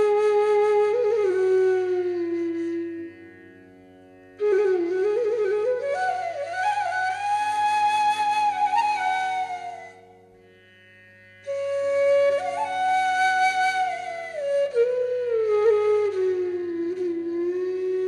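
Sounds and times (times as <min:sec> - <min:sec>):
slow flute melody: 0:00.0 - 0:03.3, 0:04.4 - 0:10.1, 0:11.5 - 0:18.0.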